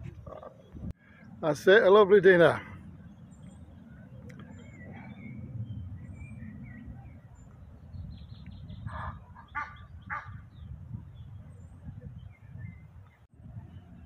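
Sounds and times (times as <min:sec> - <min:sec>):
harsh bird calls: 0:00.2 - 0:12.8.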